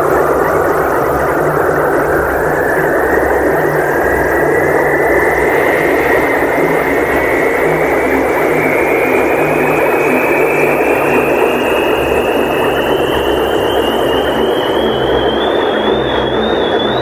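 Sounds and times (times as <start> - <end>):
dark ambient electronic drone: 0.0 - 17.0
rising high tone: 0.0 - 17.0.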